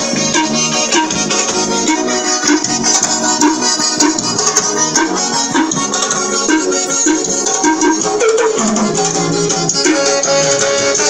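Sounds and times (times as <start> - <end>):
loud music with steady beat: 0.0 - 11.0.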